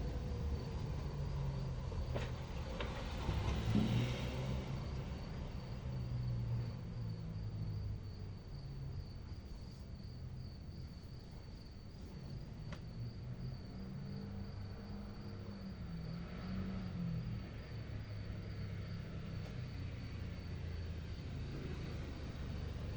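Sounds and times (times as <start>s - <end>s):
crickets chirping: 0.0s - 22.9s
low continuous rumble: 0.0s - 22.9s.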